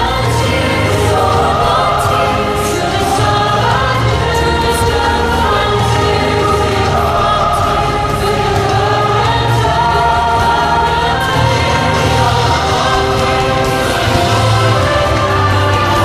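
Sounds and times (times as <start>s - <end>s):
choir singing sustained notes: 0.0s - 16.0s
orchestral music: 0.0s - 16.0s
strong bass: 0.0s - 16.0s.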